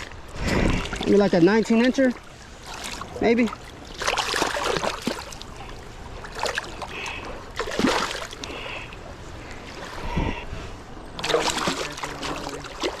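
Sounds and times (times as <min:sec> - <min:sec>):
water splashing: 0:00.0 - 0:10.4, 0:11.1 - 0:13.0.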